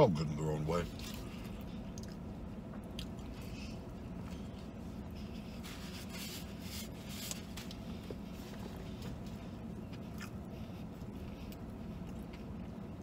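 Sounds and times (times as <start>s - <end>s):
steady low hum: 0.0s - 13.0s
chewing and wet mouth sounds: 0.8s - 13.0s.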